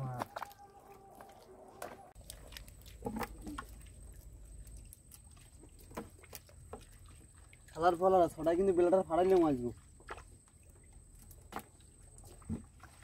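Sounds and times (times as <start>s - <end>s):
squelches in soft mud: 0.0s - 13.0s.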